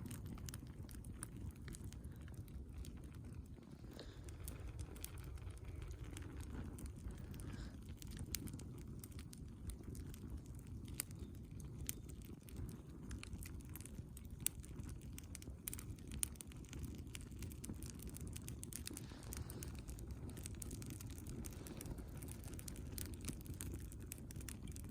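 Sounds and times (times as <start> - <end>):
fire low rumble: 0.0 - 24.9
wood fire crackling and popping: 0.0 - 24.9.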